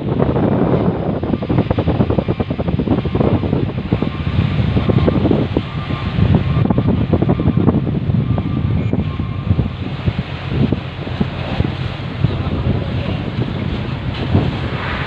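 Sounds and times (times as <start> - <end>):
ship engine drone: 0.0 - 15.0
wind buffeting microphone: 0.0 - 15.0.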